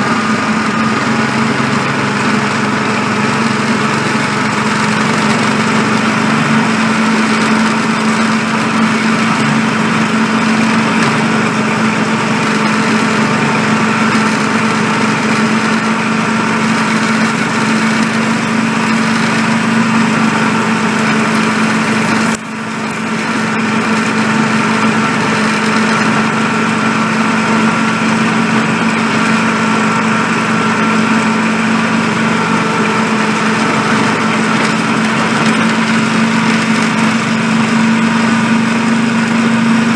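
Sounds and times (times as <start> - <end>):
small locomotive engine running: 0.0 - 39.9.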